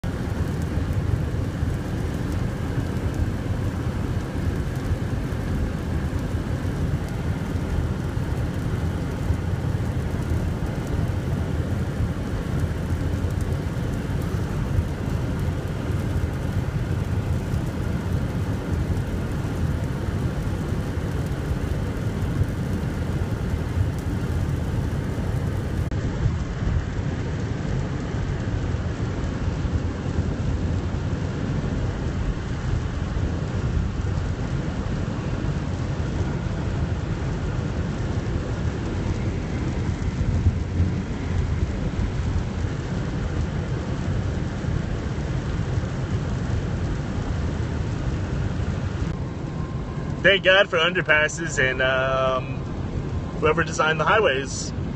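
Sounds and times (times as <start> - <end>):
storm wind and rain: 0.0 - 54.9.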